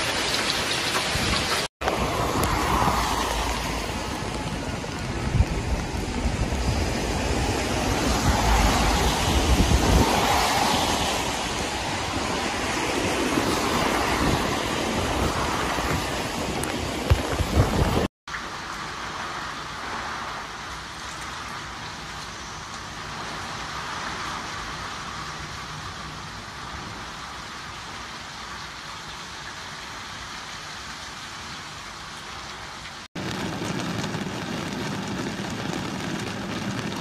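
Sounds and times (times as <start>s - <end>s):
heavy rain and wind: 0.0s - 37.0s.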